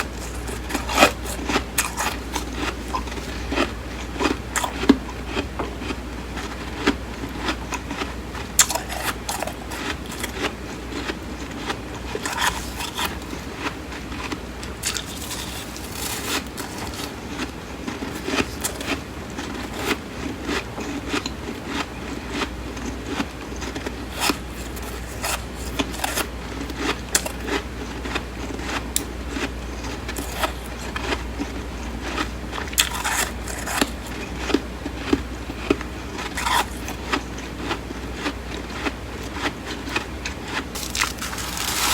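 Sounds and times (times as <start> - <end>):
chewing and crunching frost: 0.0 - 41.9.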